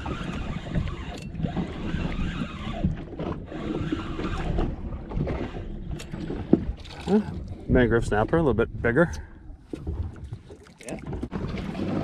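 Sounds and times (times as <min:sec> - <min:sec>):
water slapping against boat hull: 0:00.0 - 0:12.0.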